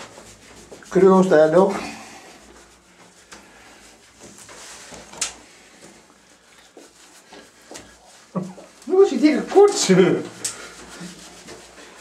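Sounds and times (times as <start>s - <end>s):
hands rubbing wet fur: 0.0s - 12.0s.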